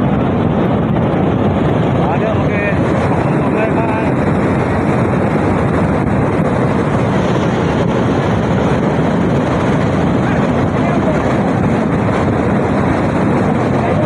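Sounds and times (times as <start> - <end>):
torrent of debris flow rushing: 0.0 - 14.0.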